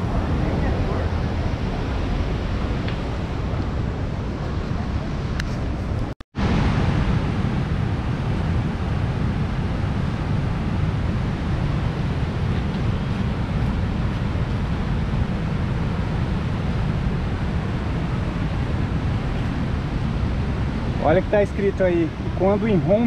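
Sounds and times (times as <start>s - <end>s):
river rapids roaring: 0.0s - 23.0s.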